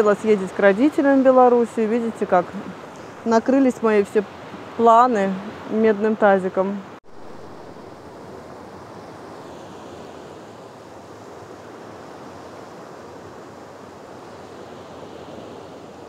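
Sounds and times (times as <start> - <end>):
sea surf washing on shore: 0.0 - 16.0.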